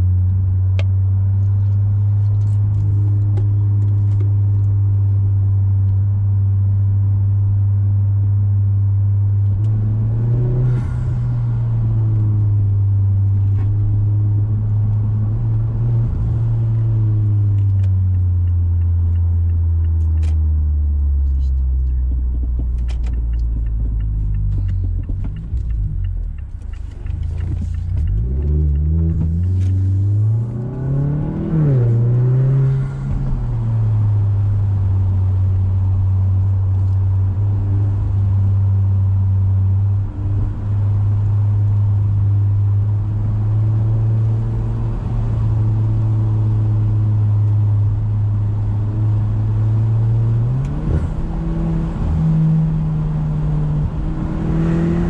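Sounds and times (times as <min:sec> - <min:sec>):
car engine revving and droning: 0:00.0 - 0:55.0.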